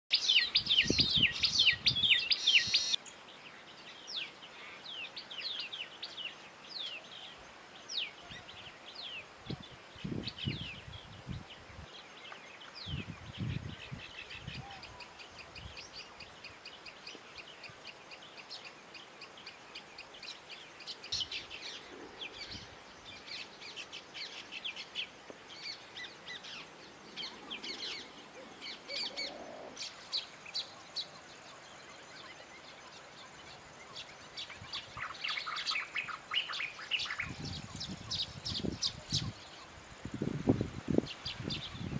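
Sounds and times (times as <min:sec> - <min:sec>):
birds chirping in a flock: 0:00.1 - 0:07.3, 0:10.4 - 0:39.7.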